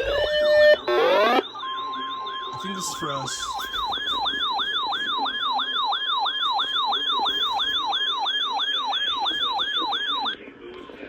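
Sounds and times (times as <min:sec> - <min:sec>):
falling siren yelp: 0:00.0 - 0:10.4
steady high tone: 0:00.0 - 0:10.4.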